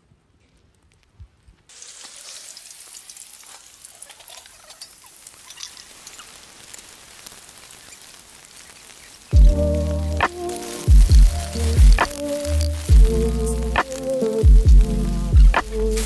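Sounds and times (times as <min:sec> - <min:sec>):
onions sizzling in hot oil: 0:01.7 - 0:16.0.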